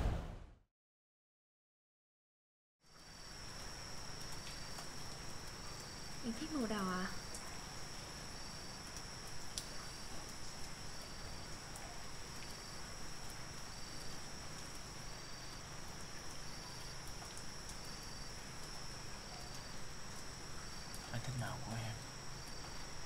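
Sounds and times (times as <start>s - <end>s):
insects trilling: 2.8s - 23.0s.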